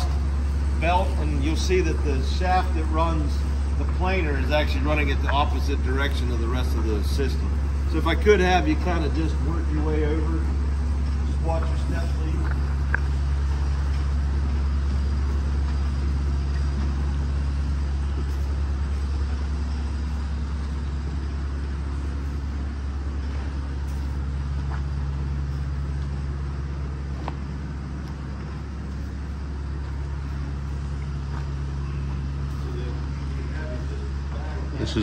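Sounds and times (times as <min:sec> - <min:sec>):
line shaft machinery humming: 0:00.0 - 0:35.0.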